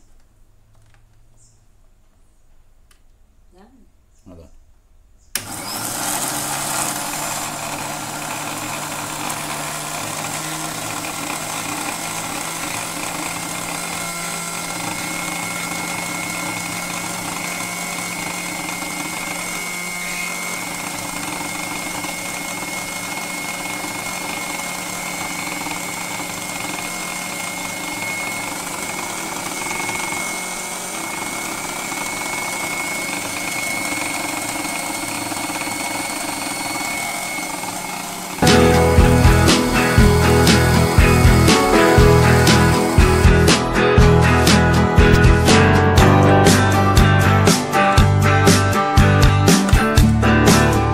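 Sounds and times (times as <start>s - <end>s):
mixer grinder chopping leaves: 5.4s - 48.6s, 49.5s - 50.6s.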